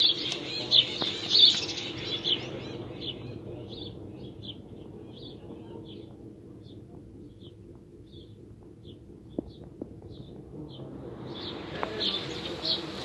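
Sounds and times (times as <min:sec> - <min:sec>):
bird chirping: 0:00.0 - 0:13.0
low background hum: 0:00.0 - 0:13.0.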